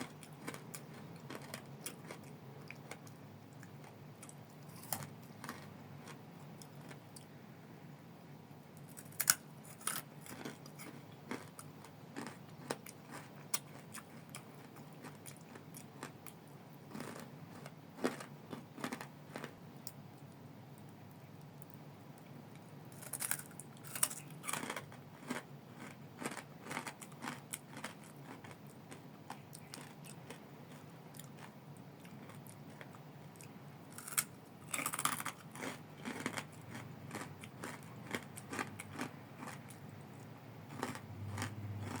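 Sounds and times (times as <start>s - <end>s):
crispy food crunching: 0.0s - 7.4s, 8.8s - 20.4s, 22.9s - 42.0s.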